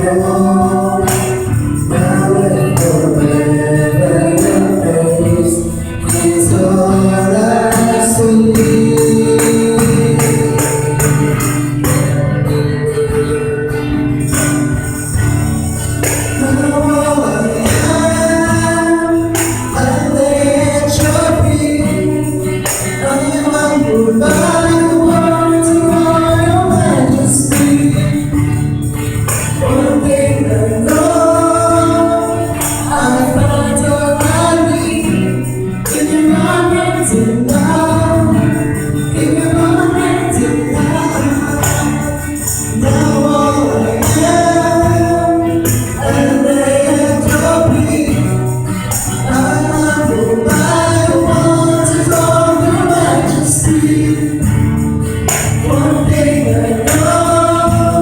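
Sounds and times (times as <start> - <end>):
voices singing together: 0.0 - 58.0.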